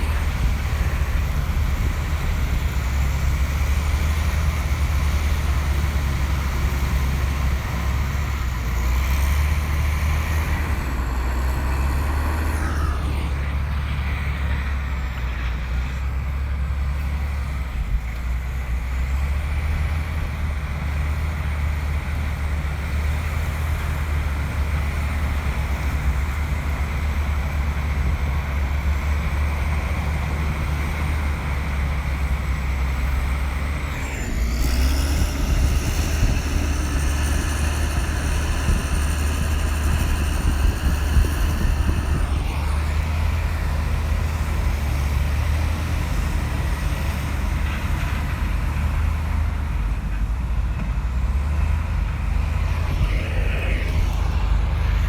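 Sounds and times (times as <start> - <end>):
bulldozer diesel engine rumbling: 0.0 - 55.0.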